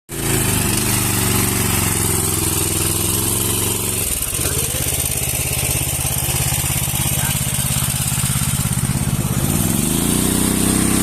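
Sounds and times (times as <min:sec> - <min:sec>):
fire pump engine running: 0:00.1 - 0:11.0.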